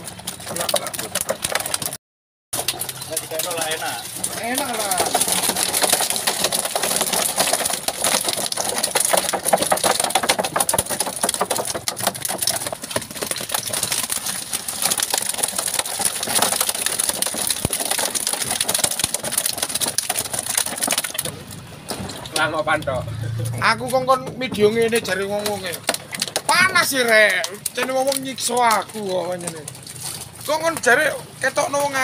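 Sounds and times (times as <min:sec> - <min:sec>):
fish thrashing in plastic barrel: 0:00.0 - 0:02.0, 0:02.6 - 0:32.0.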